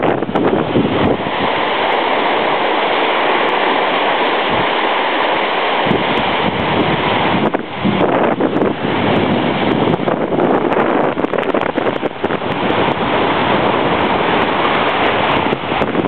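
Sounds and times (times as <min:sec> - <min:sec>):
waves washing onto sandy shore: 0:00.0 - 0:16.0.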